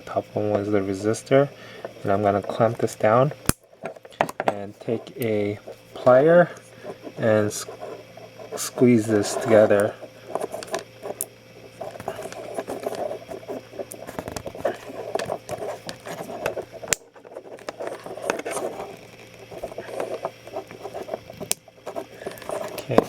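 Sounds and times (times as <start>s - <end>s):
hands handling wires rustling: 0.6s - 23.0s.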